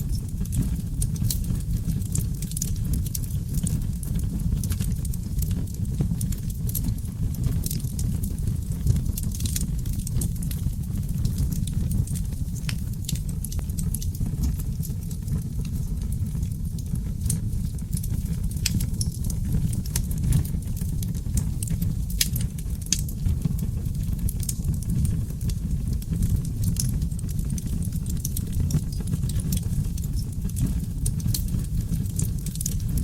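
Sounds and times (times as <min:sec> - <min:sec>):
fire crackling and popping: 0:00.0 - 0:33.0
fire flames rumbling: 0:00.0 - 0:33.0.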